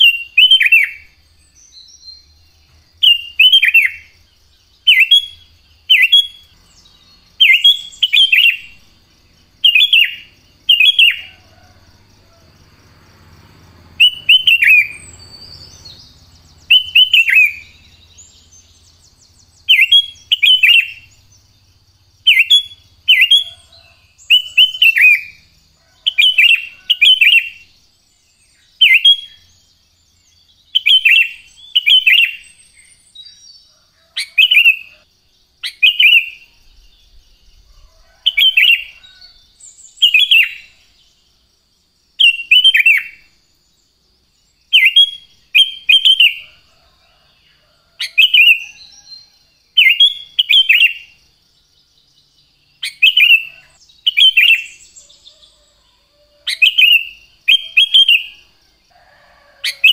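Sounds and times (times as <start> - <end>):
bird singing whistled notes: 0.0 - 12.4, 13.9 - 41.3, 42.1 - 47.2, 48.0 - 59.9.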